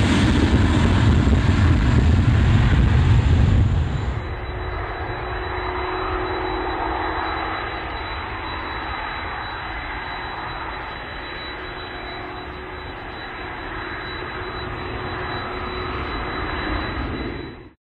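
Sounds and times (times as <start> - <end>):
jet airliner taking off: 0.0 - 17.8.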